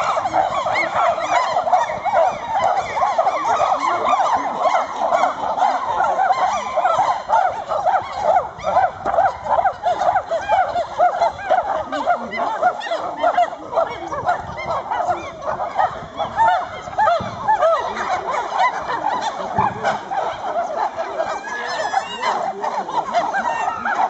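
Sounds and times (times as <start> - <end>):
chorus of animal calls: 0.0 - 24.0.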